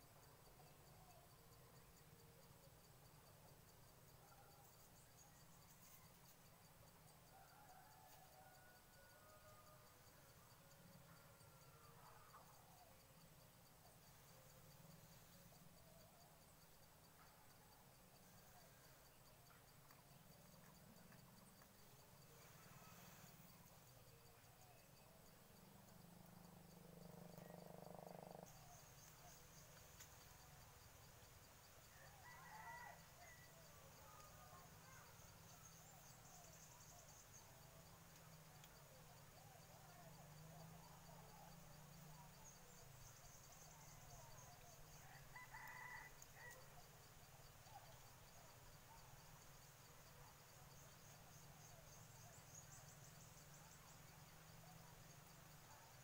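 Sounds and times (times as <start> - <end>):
faint chirps: 0.0 - 56.0
high insect hum: 0.0 - 56.0.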